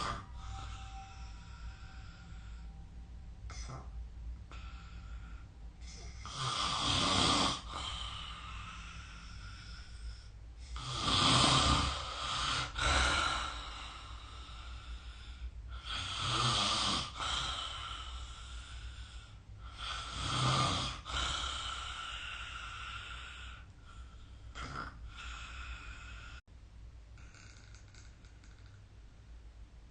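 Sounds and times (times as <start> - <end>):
person snoring: 0.0 - 2.8, 3.5 - 26.4
quiet breath: 0.0 - 11.0, 11.7 - 16.4, 17.0 - 26.5.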